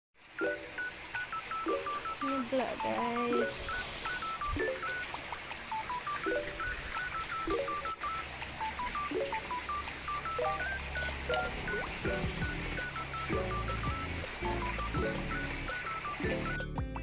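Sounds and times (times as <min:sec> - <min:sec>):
electronic beeping melody: 0:00.4 - 0:16.8.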